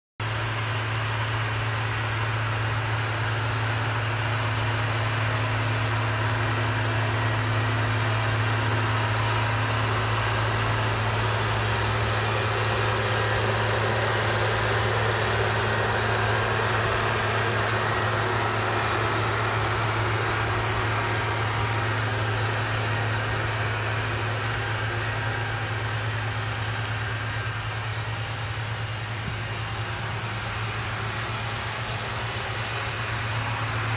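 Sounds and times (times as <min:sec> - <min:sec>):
tractor diesel engine running: 0:00.2 - 0:33.9.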